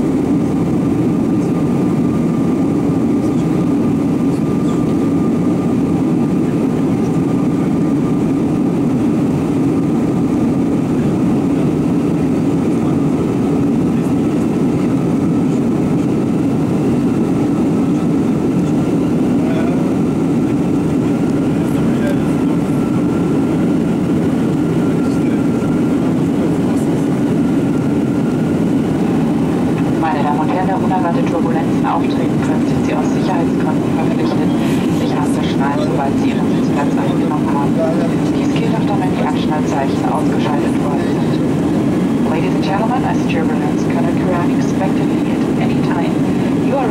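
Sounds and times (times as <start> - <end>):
jet engines and rushing air: 0.0 - 46.9
thin steady whine: 0.0 - 46.9.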